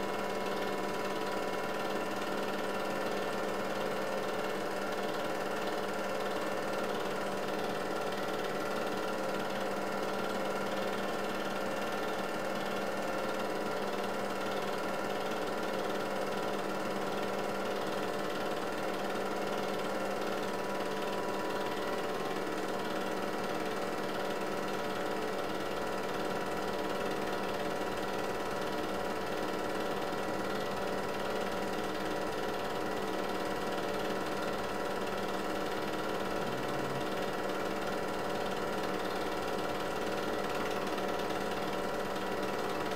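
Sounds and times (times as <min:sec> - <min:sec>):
film projector clatter: 0:00.0 - 0:42.9
projector motor hum: 0:00.0 - 0:42.9.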